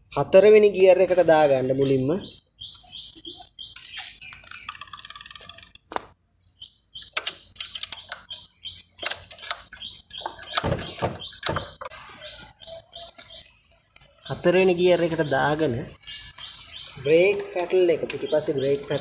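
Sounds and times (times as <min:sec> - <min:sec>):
small bird chirping: 0:01.5 - 0:05.8, 0:06.4 - 0:19.0.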